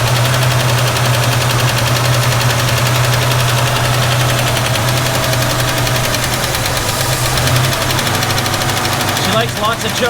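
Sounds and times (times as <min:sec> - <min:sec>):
car engine idling with valve tick: 0:00.0 - 0:10.0.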